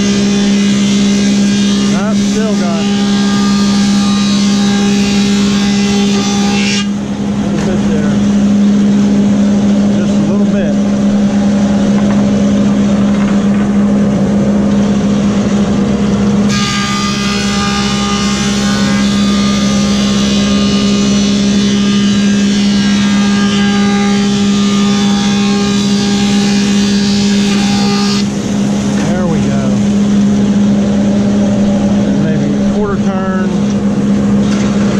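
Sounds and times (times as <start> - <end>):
multi-toned whine of board planing: 0.0 - 34.9
planer humming: 0.0 - 34.9.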